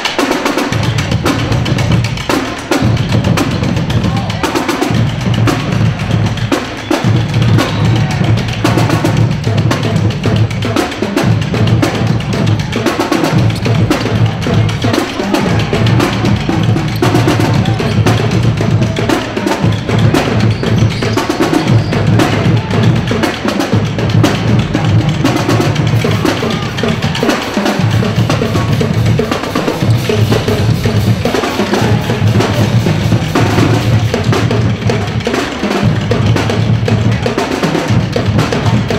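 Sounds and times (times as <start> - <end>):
music with heavy drum beat: 0.0 - 38.9.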